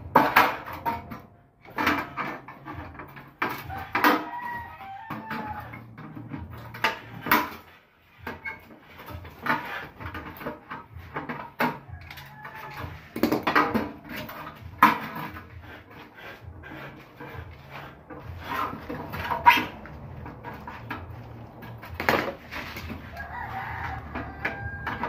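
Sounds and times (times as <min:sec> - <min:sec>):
metallic knocks and clanks: 0:00.0 - 0:25.0.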